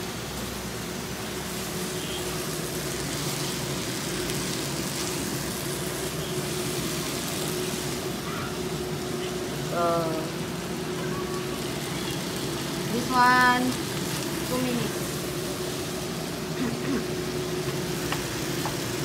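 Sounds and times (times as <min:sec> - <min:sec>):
meat sizzling in a wok: 0:00.0 - 0:19.0
range hood fan humming: 0:00.0 - 0:19.0.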